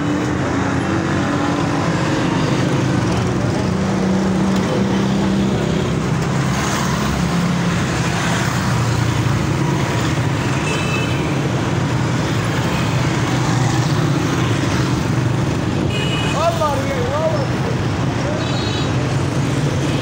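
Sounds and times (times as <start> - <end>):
motorcycle engines humming: 0.0 - 20.0
road traffic: 0.0 - 20.0.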